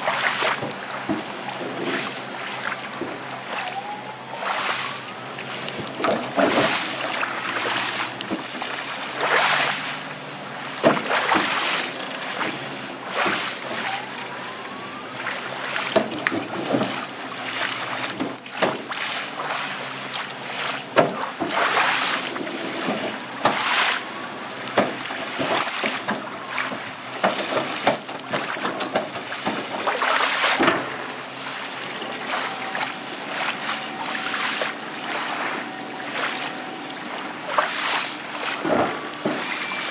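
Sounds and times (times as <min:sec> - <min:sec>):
small waves lapping: 0:00.0 - 0:39.9.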